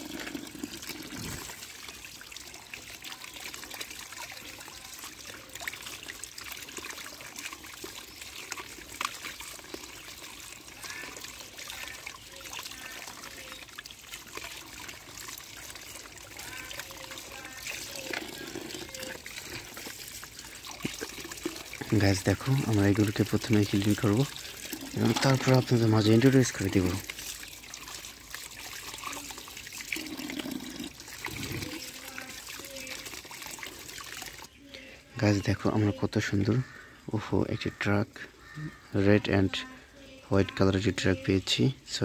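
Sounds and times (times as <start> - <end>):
tap water running and splashing: 0.0 - 34.6.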